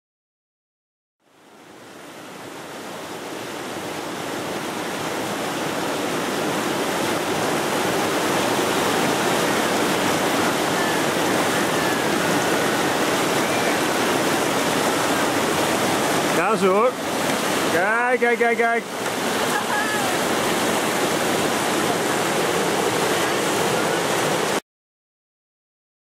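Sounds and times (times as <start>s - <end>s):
river rushing through rapids: 1.2s - 24.6s.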